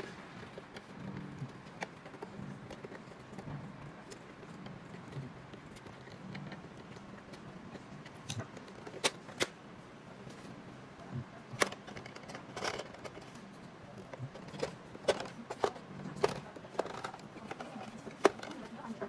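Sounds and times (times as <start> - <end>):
plastic parts clicking: 0.0 - 9.6, 11.5 - 18.9.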